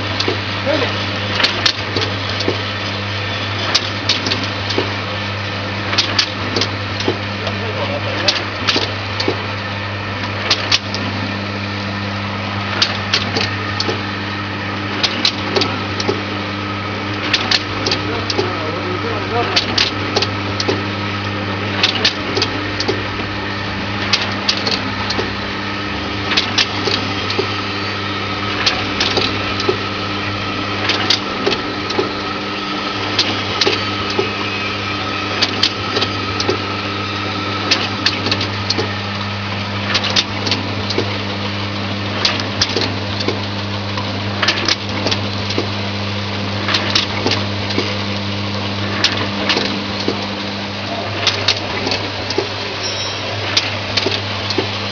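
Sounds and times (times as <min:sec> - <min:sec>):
machine motor hum: 0:00.0 - 0:54.9.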